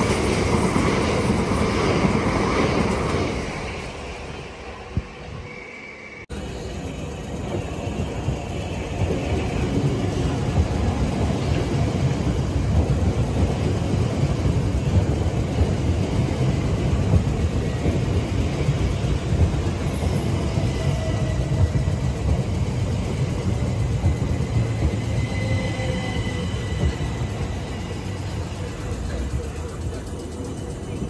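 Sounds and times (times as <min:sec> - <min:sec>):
wheels rumbling on rail: 0:00.0 - 0:05.6, 0:06.3 - 0:31.0.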